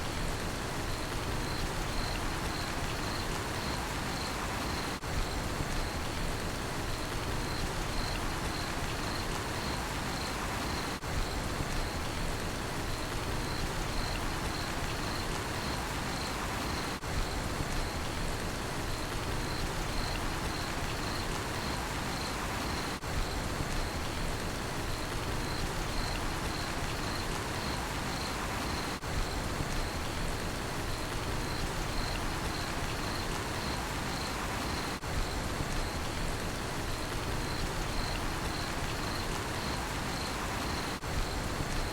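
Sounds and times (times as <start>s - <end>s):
steady rainfall: 0.0s - 41.9s
cricket chirping: 0.8s - 6.2s, 6.9s - 12.2s, 12.9s - 18.2s, 18.9s - 24.2s, 24.8s - 36.2s, 37.0s - 41.9s.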